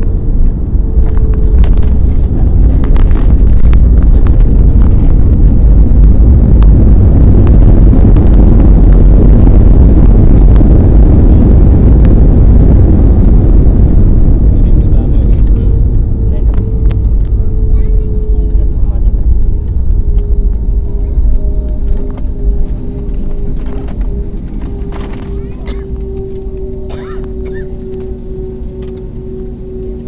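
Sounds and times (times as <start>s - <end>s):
aeroplane roar: 0.0s - 30.0s.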